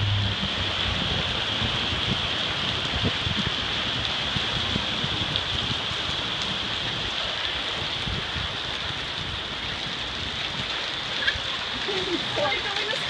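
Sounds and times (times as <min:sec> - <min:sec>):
car splashing through floodwater: 0:00.0 - 0:13.0
heavy rain pouring on street: 0:00.0 - 0:13.0.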